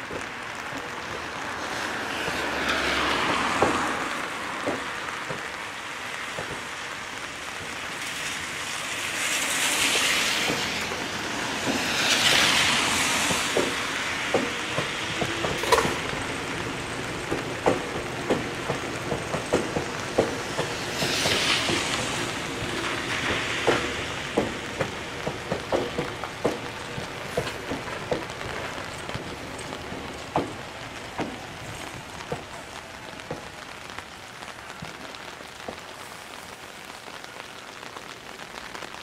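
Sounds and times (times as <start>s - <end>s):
wheels clicking over rail joints: 0.0s - 39.0s.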